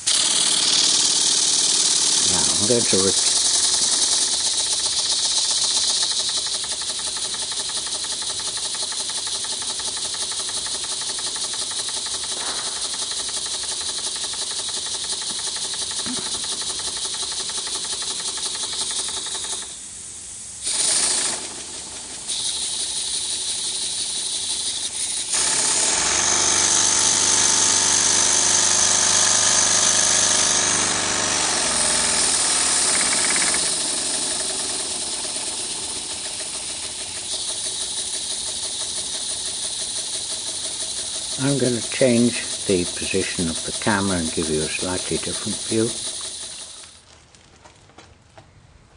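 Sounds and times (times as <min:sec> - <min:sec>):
exhaust air hissing: 0:00.0 - 0:25.4, 0:31.3 - 0:47.1
small air engine running: 0:00.0 - 0:47.2.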